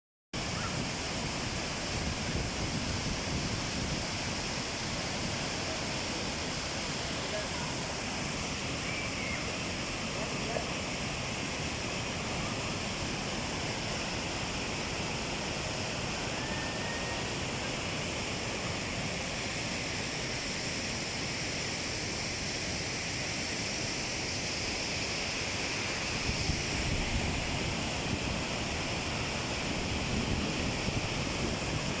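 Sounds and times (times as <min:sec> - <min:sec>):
waterfall rushing: 0:00.4 - 0:32.0.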